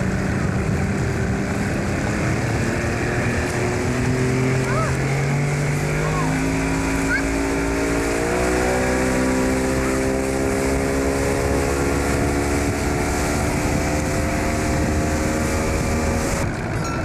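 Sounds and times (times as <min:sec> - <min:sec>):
motorboat engine at high throttle: 0:00.0 - 0:17.0
water rushing past hull: 0:00.0 - 0:17.0.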